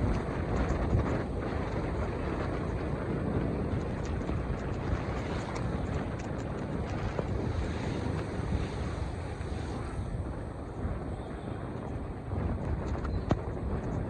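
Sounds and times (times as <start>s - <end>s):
low outdoor rumbling: 0.0s - 14.0s.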